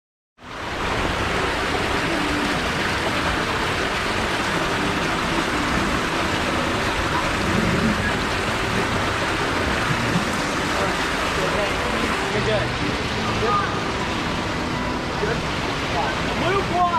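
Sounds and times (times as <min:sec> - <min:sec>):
water rushing into slide: 0:00.4 - 0:16.9.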